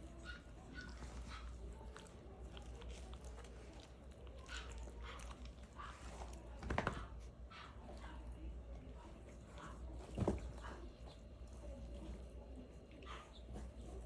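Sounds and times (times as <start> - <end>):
puppies chewing: 0.0 - 14.0.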